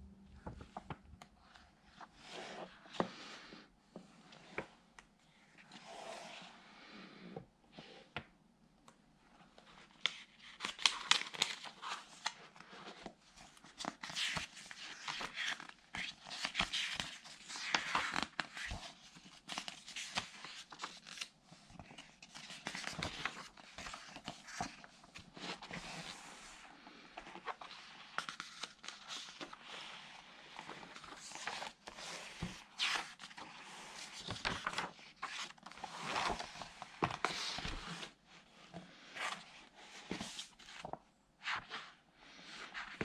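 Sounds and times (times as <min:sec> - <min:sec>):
book pages turning: 0:00.4 - 0:03.4, 0:09.6 - 0:41.9.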